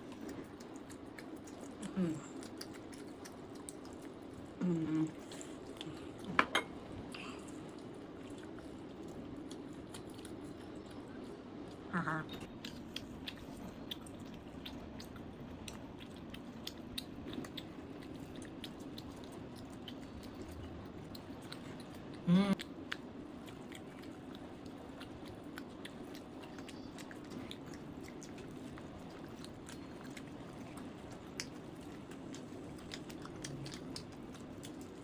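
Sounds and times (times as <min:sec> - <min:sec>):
person chewing with mouth clicks: 0:00.0 - 0:35.0.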